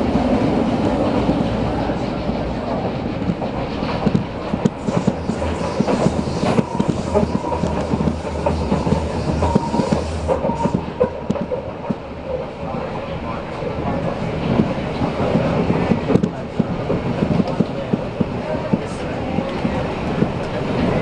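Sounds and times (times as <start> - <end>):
train rumbling in tunnel: 0.0 - 21.0.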